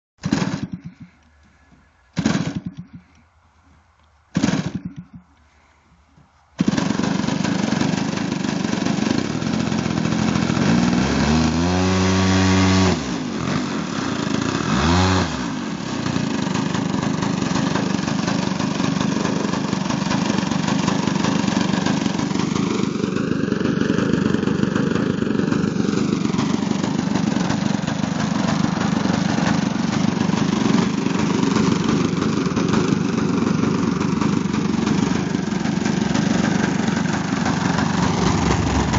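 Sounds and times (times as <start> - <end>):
two-stroke model engine running: 6.6 - 38.9.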